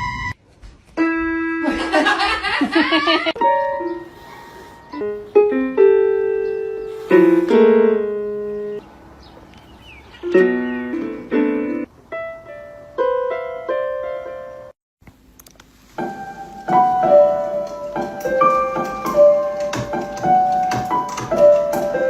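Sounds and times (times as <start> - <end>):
piano music: 1.0 - 2.5, 3.3 - 14.8, 15.9 - 22.0.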